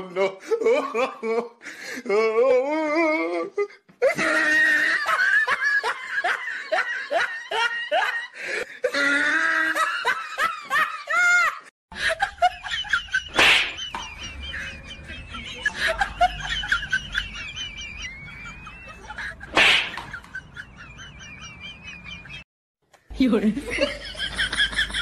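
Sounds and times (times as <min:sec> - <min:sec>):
person laughing: 0:00.0 - 0:22.4.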